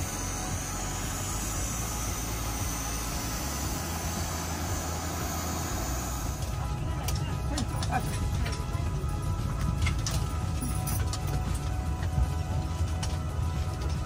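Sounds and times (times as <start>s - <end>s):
machine drone and hiss: 0.0s - 14.0s
unsteady low rumble: 0.0s - 14.0s.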